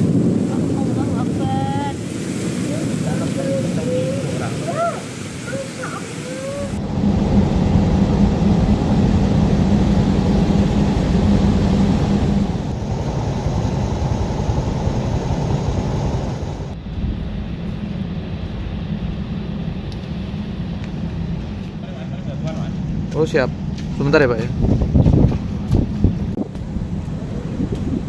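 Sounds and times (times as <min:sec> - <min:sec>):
heavy rain: 0:00.0 - 0:26.1
wind buffeting microphone: 0:00.0 - 0:28.0
windstorm roaring: 0:00.0 - 0:28.0.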